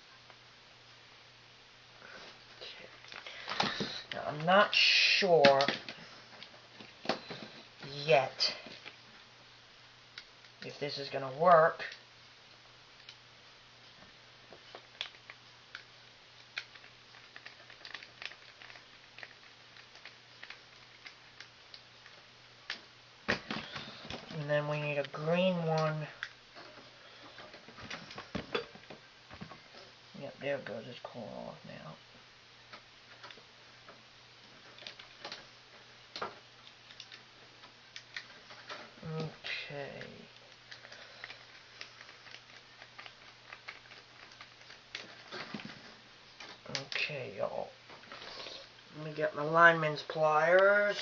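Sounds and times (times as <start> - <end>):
faint low hum: 0.0 - 51.0.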